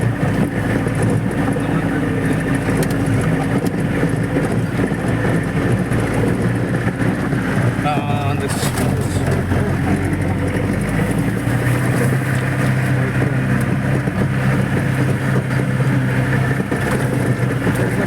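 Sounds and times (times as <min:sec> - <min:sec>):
engine running with low hum: 0:00.0 - 0:18.0.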